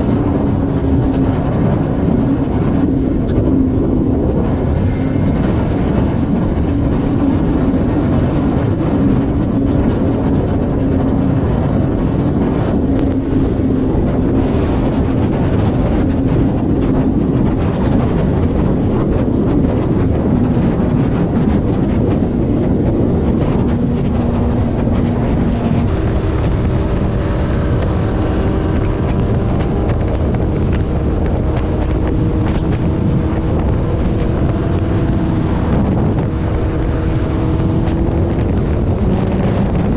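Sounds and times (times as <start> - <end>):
heavy wind noise: 0.0 - 39.9
vehicle engine drone: 0.0 - 39.9.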